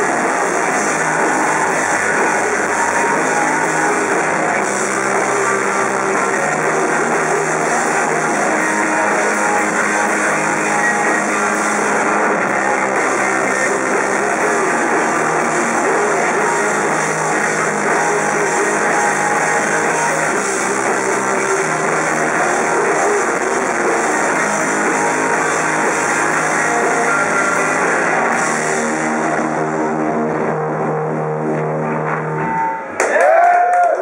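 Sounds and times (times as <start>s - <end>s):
bass guitar: 0.0s - 33.9s
drums: 0.0s - 34.0s
electric guitar: 0.0s - 34.0s.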